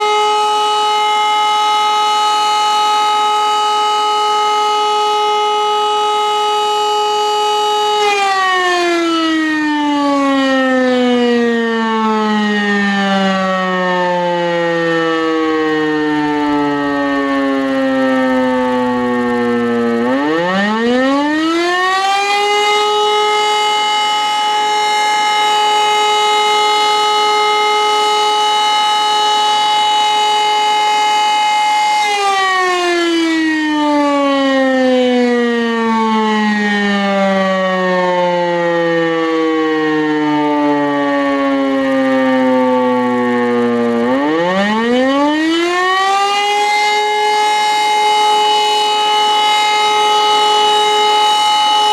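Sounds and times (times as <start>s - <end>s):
electromechanical siren wailing: 0.0s - 51.9s.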